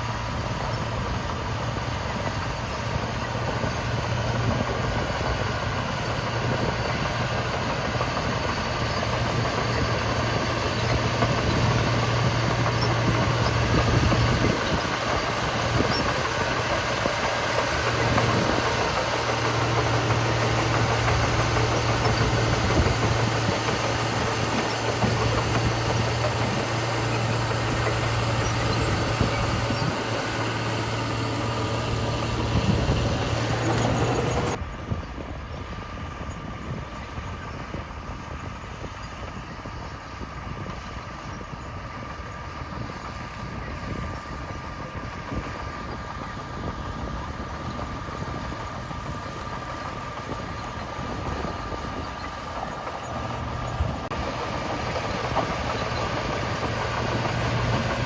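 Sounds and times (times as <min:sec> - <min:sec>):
diesel construction machinery running: 0:00.0 - 0:58.0
distant engine drone: 0:00.0 - 0:58.0.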